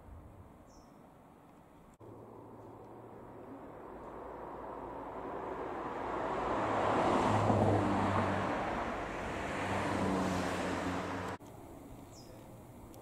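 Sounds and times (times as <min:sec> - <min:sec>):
vehicle engine humming: 0:00.2 - 0:13.0.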